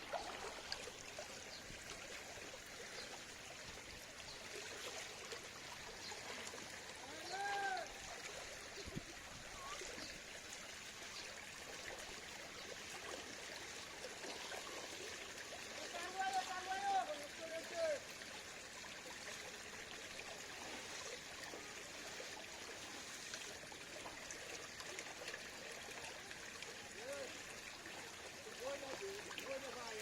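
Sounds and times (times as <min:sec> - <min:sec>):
water flowing and trickling: 0:00.0 - 0:30.0.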